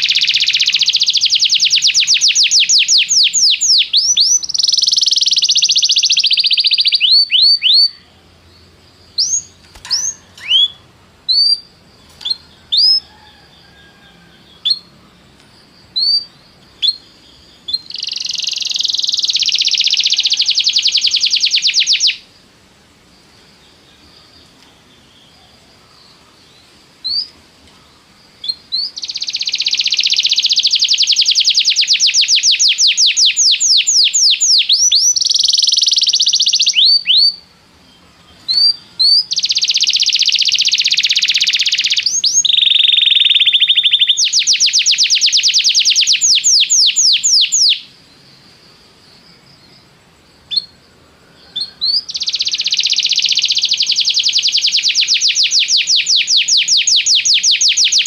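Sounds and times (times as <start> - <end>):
canary singing trills: 0.0 - 22.4, 23.8 - 48.4, 49.1 - 50.8, 51.4 - 58.0.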